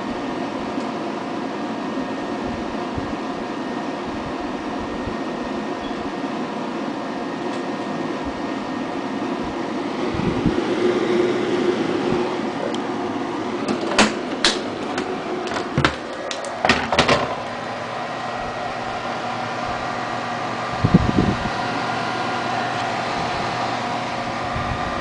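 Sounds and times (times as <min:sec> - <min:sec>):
computer cooling fans whirring: 0:00.0 - 0:25.0.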